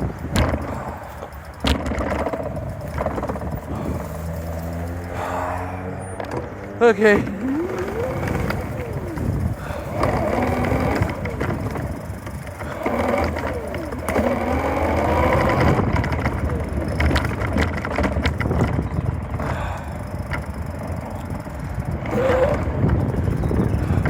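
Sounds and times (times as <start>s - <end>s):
bicycle rattles and clicks: 0.0s - 24.0s
bicycle rumbling on rough trail: 0.0s - 24.0s
wind on microphone: 0.0s - 24.0s.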